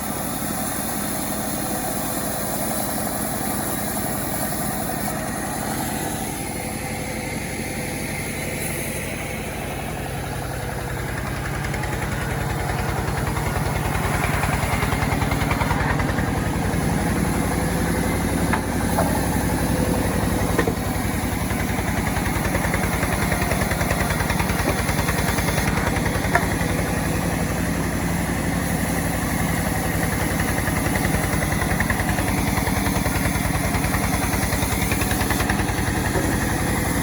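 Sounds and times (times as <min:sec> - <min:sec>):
chainsaw engine running: 0:00.0 - 0:37.0.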